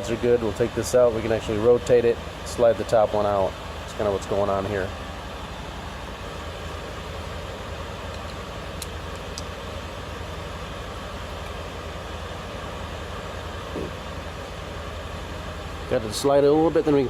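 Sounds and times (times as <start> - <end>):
mechanical background hum: 0.0 - 17.0.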